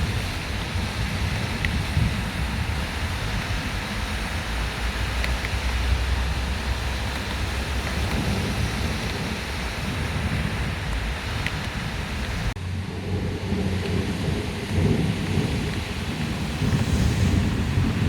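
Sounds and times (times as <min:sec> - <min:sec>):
heavy rain pouring: 0:00.0 - 0:18.0
thunder rumbling: 0:00.0 - 0:18.0.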